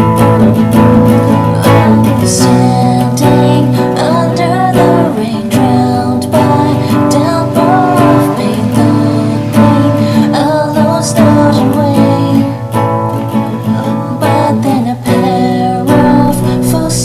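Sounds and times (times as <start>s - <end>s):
strummed acoustic guitar: 0.0s - 17.0s
person singing: 1.0s - 17.0s.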